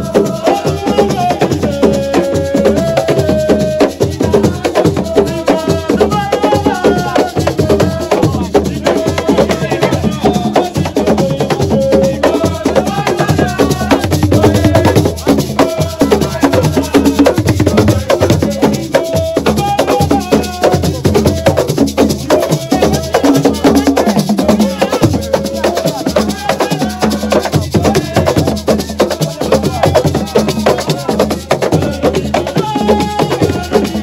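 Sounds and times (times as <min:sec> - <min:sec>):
fast hand percussion and drums: 0:00.0 - 0:34.0.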